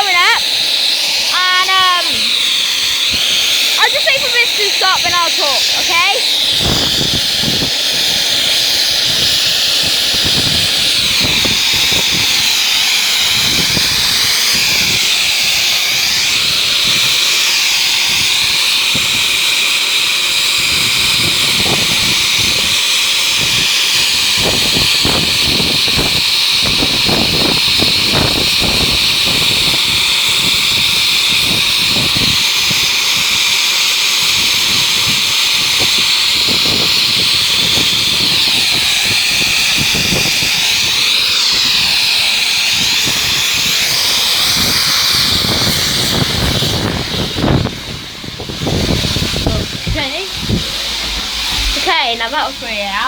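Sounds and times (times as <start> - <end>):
loud hiss of escaping steam: 0.0 - 53.0.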